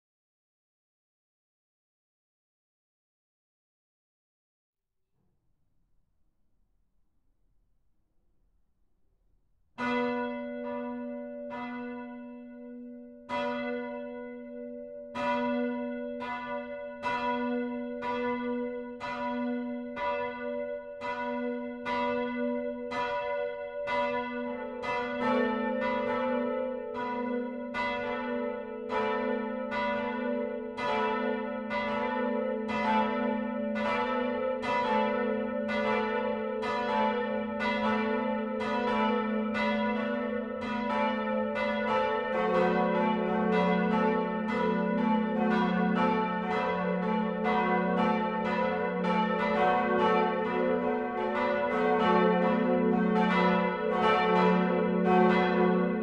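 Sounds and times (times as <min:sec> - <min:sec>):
church bells ringing: 0:09.8 - 0:56.0.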